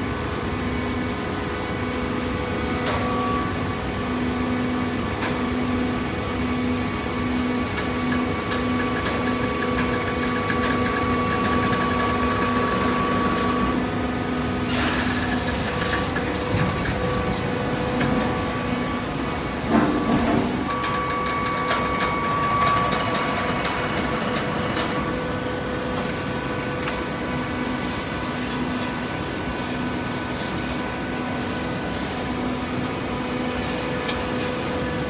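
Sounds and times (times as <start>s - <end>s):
baler mechanical hum: 0.0s - 35.0s.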